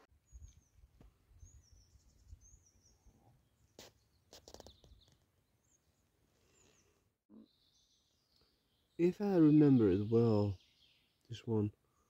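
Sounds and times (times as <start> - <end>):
faint bird chirps: 0.2 - 12.0.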